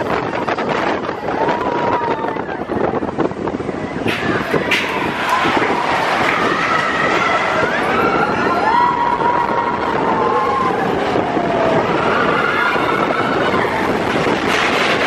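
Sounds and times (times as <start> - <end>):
roller coaster rumble: 0.0 - 15.0.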